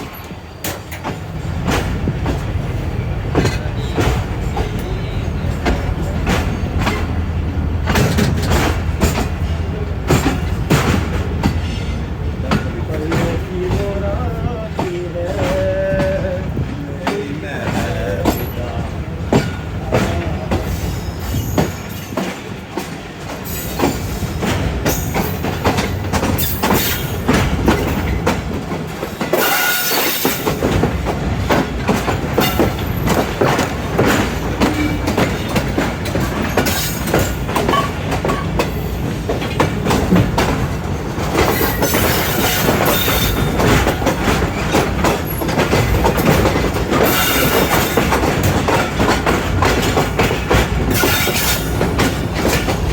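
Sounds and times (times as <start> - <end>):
high train screeches: 0.0 - 7.3, 7.9 - 28.4, 29.0 - 40.1, 40.9 - 52.9
train wheels clattering over rails: 0.0 - 52.9.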